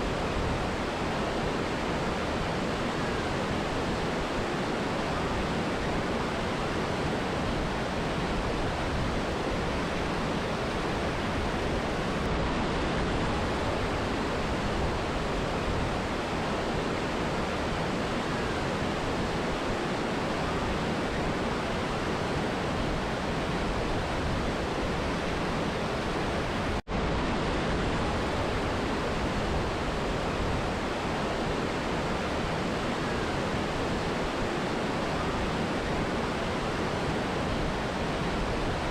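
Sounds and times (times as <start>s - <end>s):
river and waterfall rushing: 0.0s - 38.9s.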